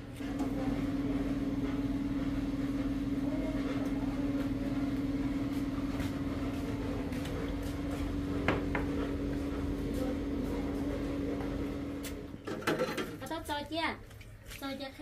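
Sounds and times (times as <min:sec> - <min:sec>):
motor humming steadily: 0:00.0 - 0:12.4.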